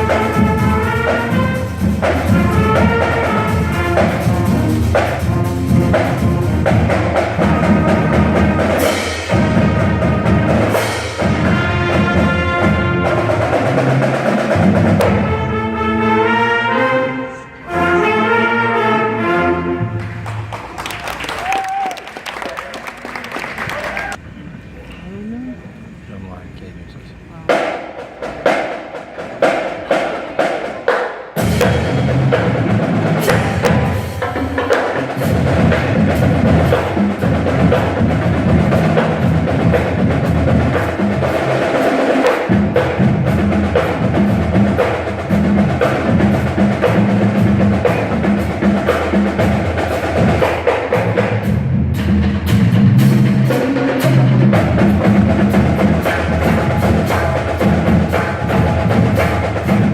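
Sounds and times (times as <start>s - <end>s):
marching band playing: 0.0s - 24.2s, 27.4s - 59.9s.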